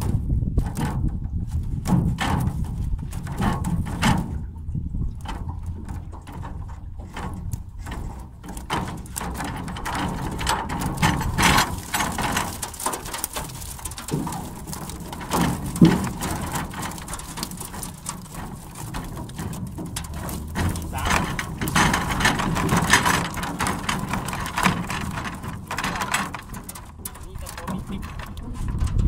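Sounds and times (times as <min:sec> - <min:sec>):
water splashing and dripping: 0:00.6 - 0:29.0.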